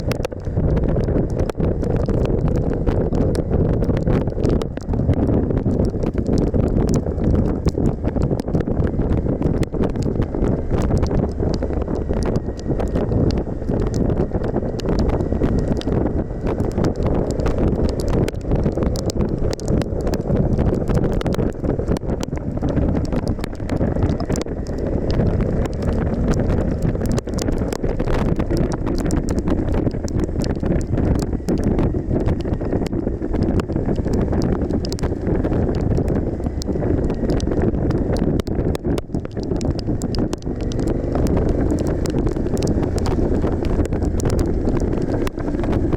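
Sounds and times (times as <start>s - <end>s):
raindrops ticking on camera: 0.0s - 45.9s
wind buffeting microphone: 0.0s - 45.9s.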